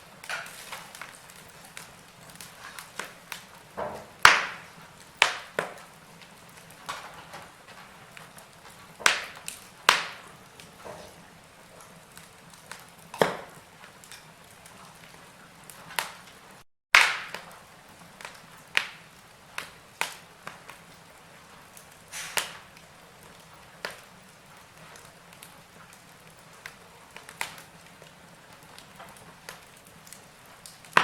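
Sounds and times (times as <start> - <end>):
faint hiss of burning: 0.0 - 31.0
wood fire crackling: 0.0 - 31.0.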